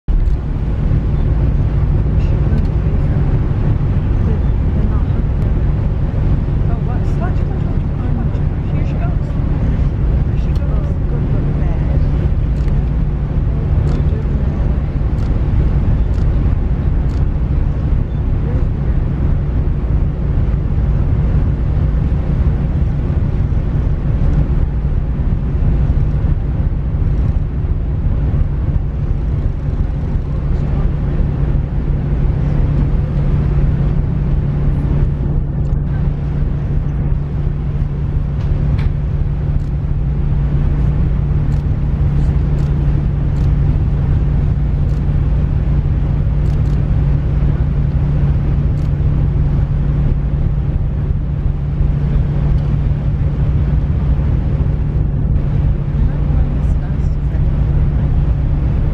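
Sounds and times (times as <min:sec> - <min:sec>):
wind rumbling on microphone: 0:00.0 - 0:58.9
ship engines droning: 0:00.1 - 0:58.9.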